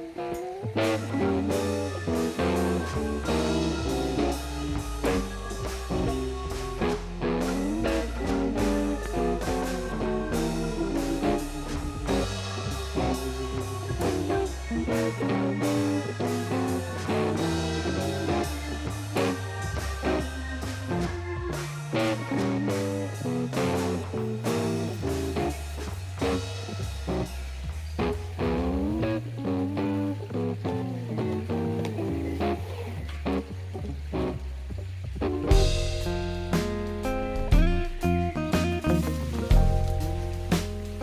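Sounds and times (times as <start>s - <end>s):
blues-rock guitar instrumental: 0.0s - 41.0s.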